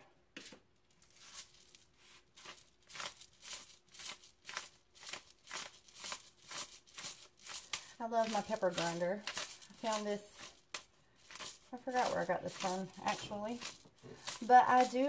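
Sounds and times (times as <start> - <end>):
pepper grinder crunching: 1.0 - 15.0.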